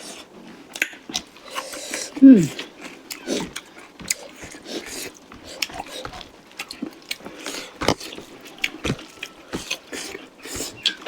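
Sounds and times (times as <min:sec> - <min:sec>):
chewing and lip smacks: 0:00.7 - 0:11.0.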